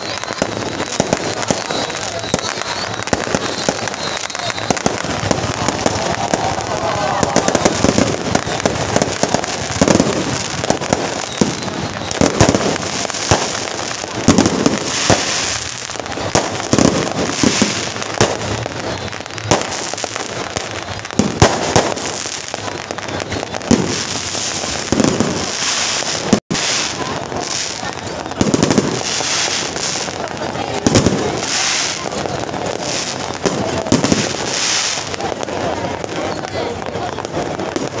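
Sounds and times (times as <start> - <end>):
firecrackers crackling: 0.0 - 38.0
sharp firecracker bangs: 0.0 - 38.0.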